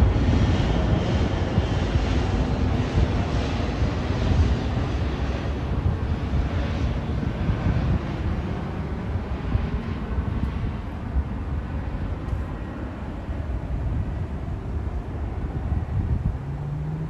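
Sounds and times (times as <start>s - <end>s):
jet engine roar overhead: 0.0s - 17.0s.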